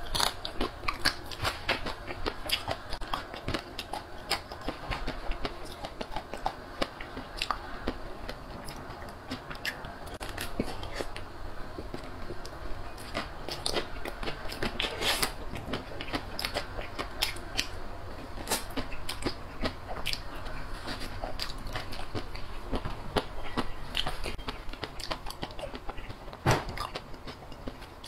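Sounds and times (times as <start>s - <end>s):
chewing and crunching chocolate: 0.0s - 28.0s.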